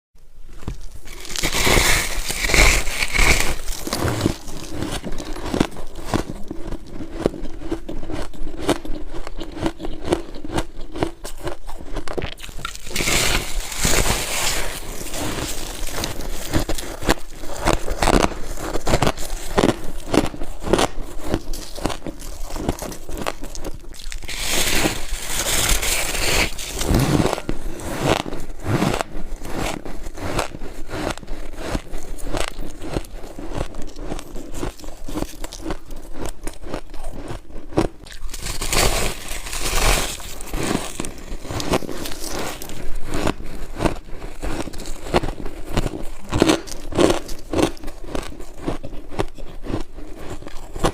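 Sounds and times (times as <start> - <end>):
ice scraping and crackling: 0.5 - 50.9
biting and crunching ice: 0.6 - 50.9.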